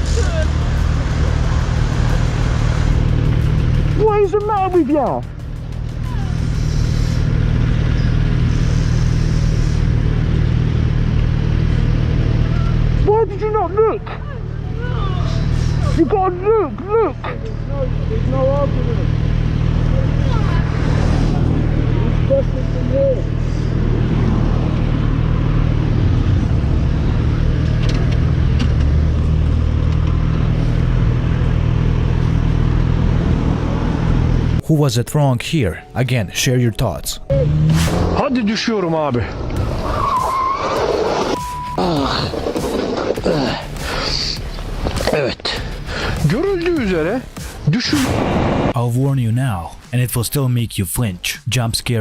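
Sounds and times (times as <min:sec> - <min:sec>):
vehicle engine humming: 0:00.0 - 0:51.1
road and wind noise: 0:00.0 - 0:52.0.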